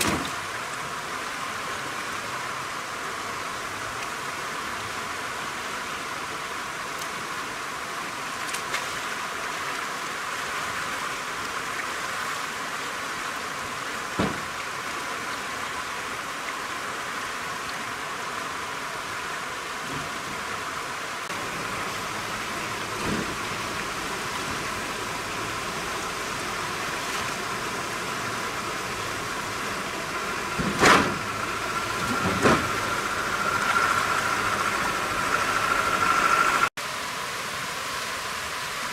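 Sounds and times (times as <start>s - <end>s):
rushing hiss of water: 0.0s - 38.9s.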